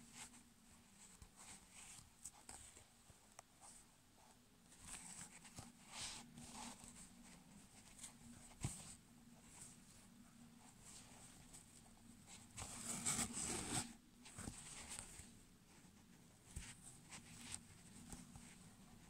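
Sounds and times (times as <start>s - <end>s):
yarn rustling with crochet hook: 0.0s - 10.0s, 10.6s - 19.0s.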